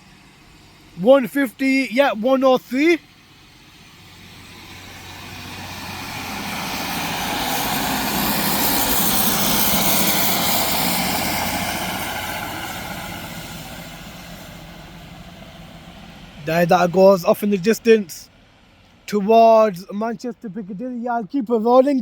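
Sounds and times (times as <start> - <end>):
diesel train engines: 0.0 - 22.0.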